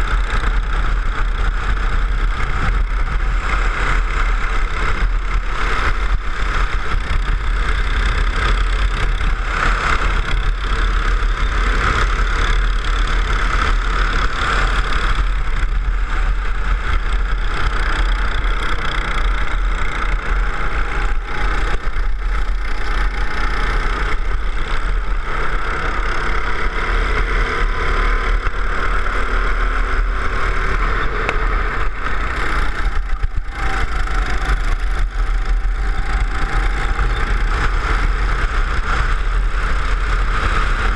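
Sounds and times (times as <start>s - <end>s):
go-kart engine revving: 0.0s - 40.9s
wind rumble on microphone: 0.0s - 40.9s.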